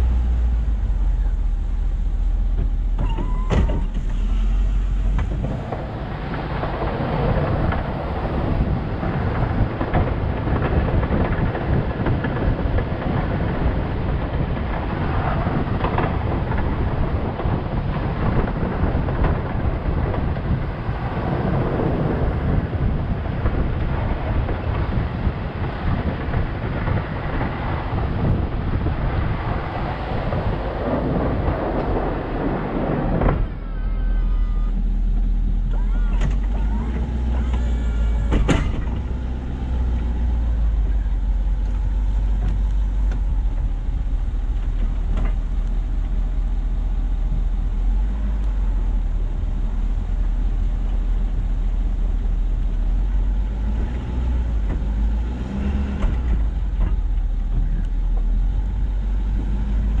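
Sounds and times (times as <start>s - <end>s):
rushing noise: 0.0s - 56.8s
road noise: 0.0s - 60.0s
truck engine rumble: 0.0s - 60.0s.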